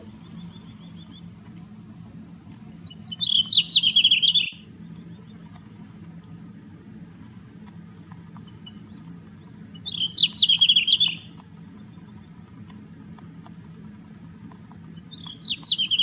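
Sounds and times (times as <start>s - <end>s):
faint low hum: 0.0s - 16.0s
songbird chattering: 0.0s - 16.0s.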